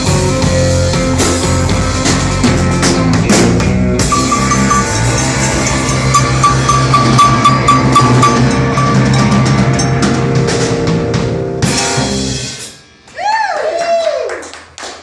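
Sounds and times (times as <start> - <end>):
live rock band playing: 0.0 - 12.9
drum kit: 0.0 - 13.2.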